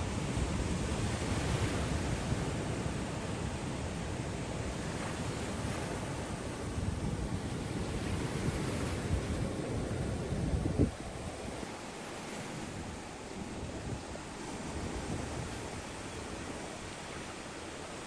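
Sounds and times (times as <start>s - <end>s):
wind buffeting microphone: 0.0s - 17.2s.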